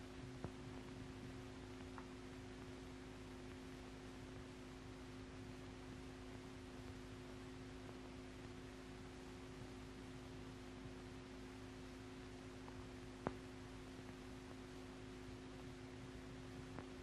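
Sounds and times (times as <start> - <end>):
faint steady two-tone hum: 0.0 - 17.0
low hiss: 0.0 - 17.0.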